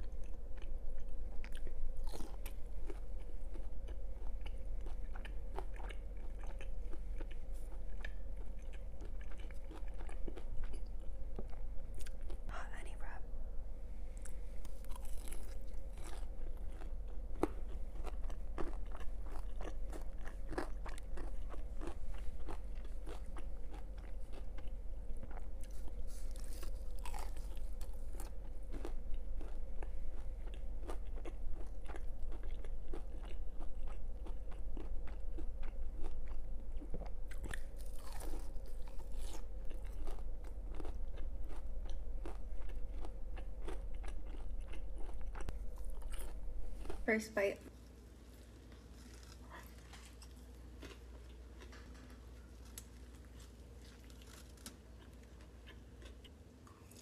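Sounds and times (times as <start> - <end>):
chewing crispy fried chicken: 0.0 - 13.1, 14.2 - 57.0
faint steady hum: 0.0 - 57.0.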